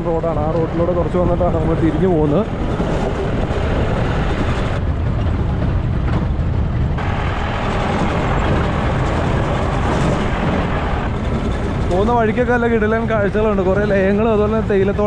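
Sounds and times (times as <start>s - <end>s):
jeep engine and tyre rumble: 0.0s - 15.0s.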